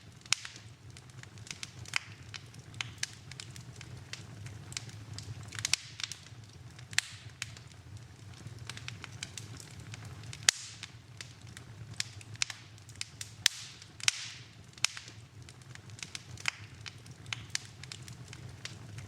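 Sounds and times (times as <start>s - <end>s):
low rumble of flame: 0.0s - 19.0s
wood fire crackling and popping: 0.0s - 19.0s.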